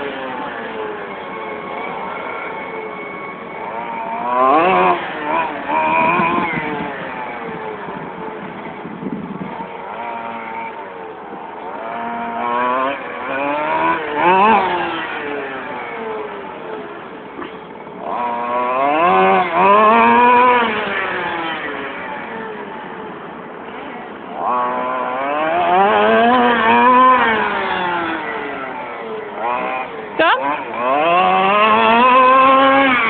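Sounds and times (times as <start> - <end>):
model car engine revving: 0.0 - 33.0.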